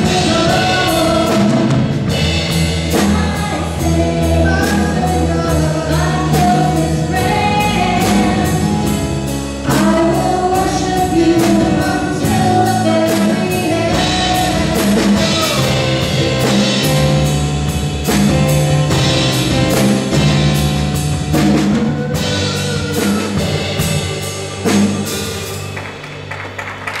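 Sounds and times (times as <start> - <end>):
drum kit beat: 0.0 - 27.0
live rock band playing: 0.0 - 27.0.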